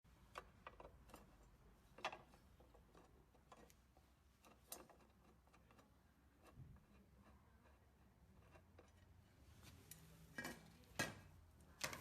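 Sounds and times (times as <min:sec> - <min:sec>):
faint clicks and knocks: 0:00.2 - 0:12.0.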